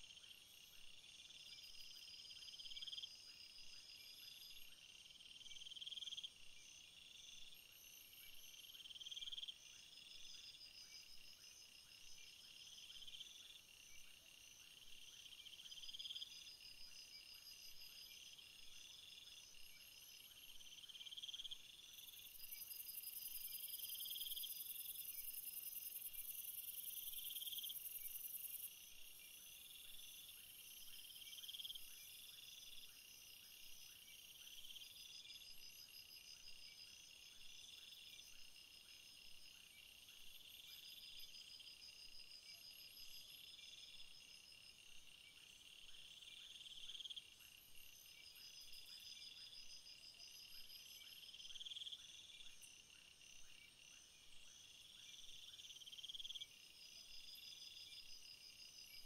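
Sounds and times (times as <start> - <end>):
crickets chirping: 0.0 - 59.0
fast pulsed insect trills: 0.0 - 59.0.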